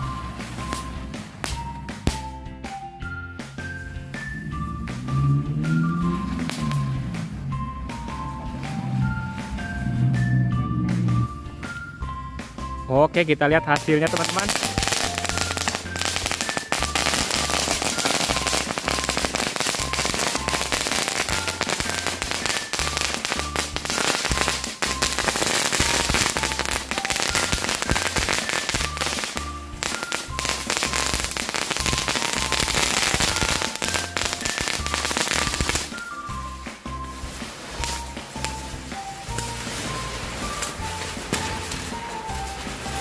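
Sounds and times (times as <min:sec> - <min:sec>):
firecrackers crackling and popping: 0:00.0 - 0:09.8, 0:12.9 - 0:43.0
background music with bass: 0:00.0 - 0:43.0.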